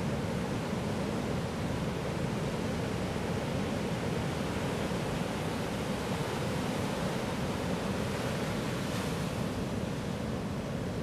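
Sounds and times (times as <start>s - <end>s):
waves breaking on sandy beach: 0.0s - 11.0s.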